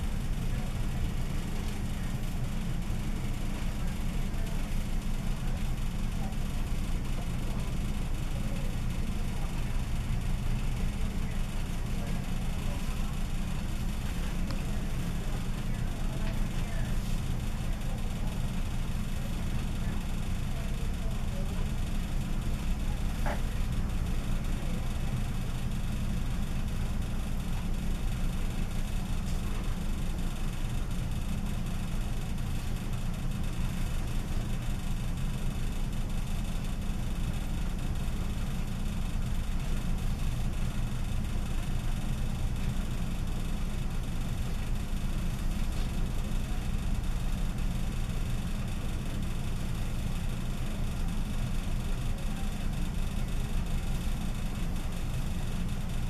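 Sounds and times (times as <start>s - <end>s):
low machinery hum: 0.0s - 56.0s.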